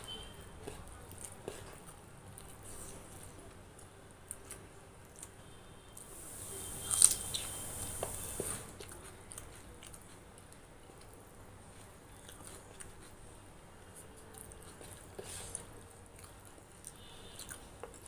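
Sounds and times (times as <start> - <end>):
mouth chewing rice: 0.0 - 5.4, 6.7 - 13.2, 14.2 - 18.0.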